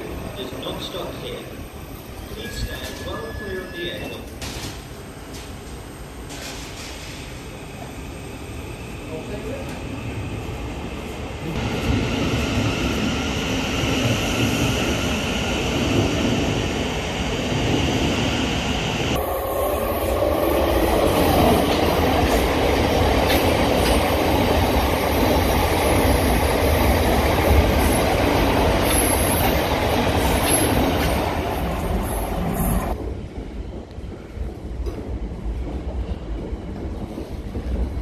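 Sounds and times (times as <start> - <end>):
passing train rumble and clatter: 4.0 - 38.0.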